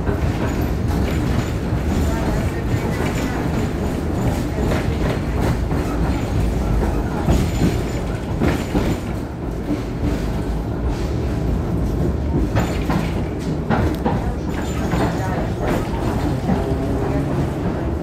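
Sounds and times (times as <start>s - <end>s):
tram wheels rumbling: 0.0s - 18.0s
wheels clacking on rail joints: 0.0s - 18.0s.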